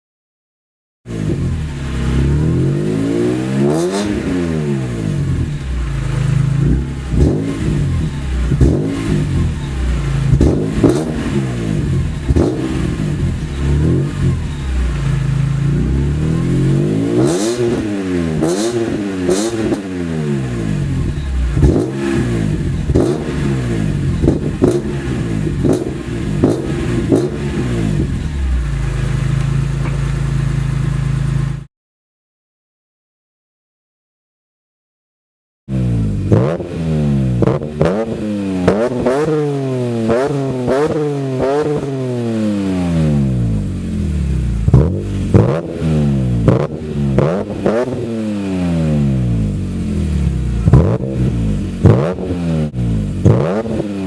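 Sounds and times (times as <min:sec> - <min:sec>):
car engine idling and revving: 0:01.1 - 0:31.7, 0:35.7 - 0:54.0.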